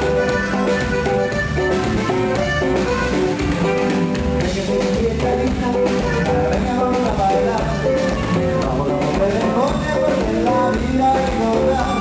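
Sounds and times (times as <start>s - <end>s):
drum kit: 0.0s - 12.0s
guitar: 0.0s - 12.0s
live band playing: 0.0s - 12.0s.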